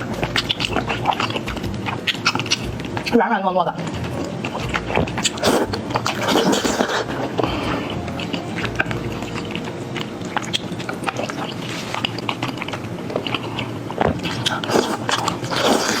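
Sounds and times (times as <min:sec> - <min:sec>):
wet chewing and slurping: 0:00.0 - 0:16.0.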